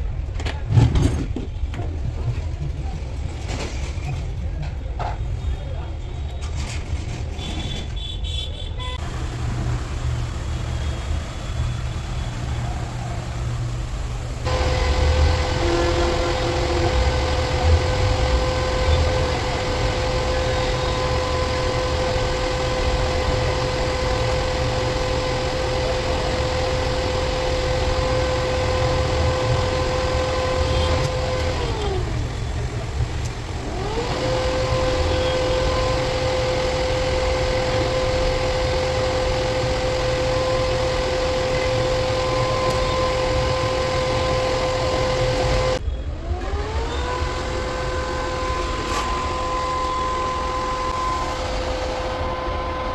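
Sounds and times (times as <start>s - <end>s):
machine motor whining: 9.0s - 52.9s.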